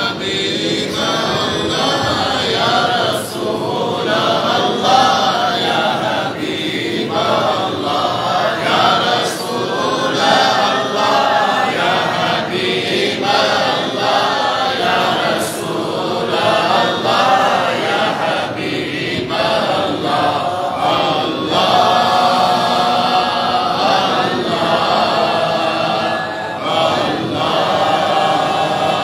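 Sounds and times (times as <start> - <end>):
men chanting in unison: 0.0 - 29.0.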